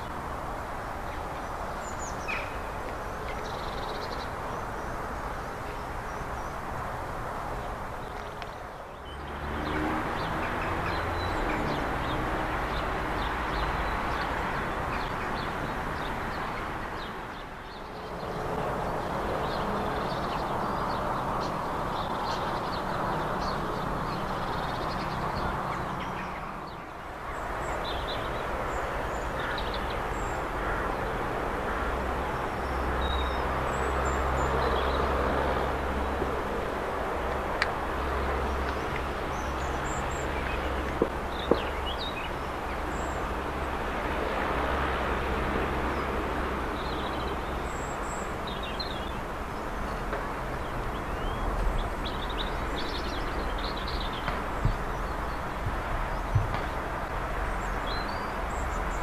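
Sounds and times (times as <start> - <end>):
outdoor background rush: 0.0 - 59.0
birds chirping: 1.1 - 6.8, 7.6 - 43.6, 45.8 - 59.0.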